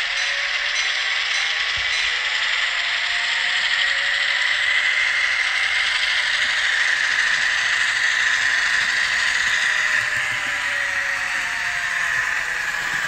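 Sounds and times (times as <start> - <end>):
model locomotive diesel engine sound: 0.0 - 13.0.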